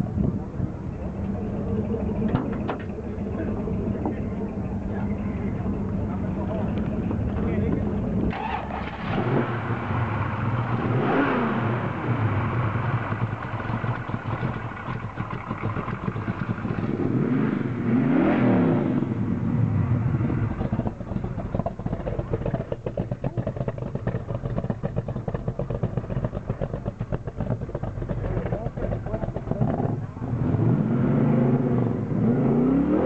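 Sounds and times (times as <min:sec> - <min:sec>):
engine revving then idling: 0:01.6 - 0:33.0.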